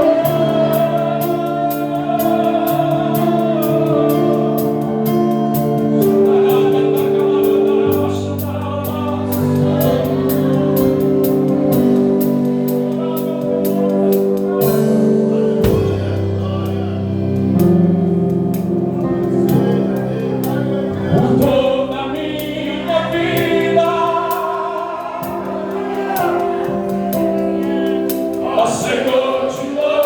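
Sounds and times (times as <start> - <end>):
bass guitar low notes: 0.0 - 28.7
gospel band playing: 0.0 - 30.0
people singing: 0.0 - 30.0
solo voice singing: 0.0 - 30.0.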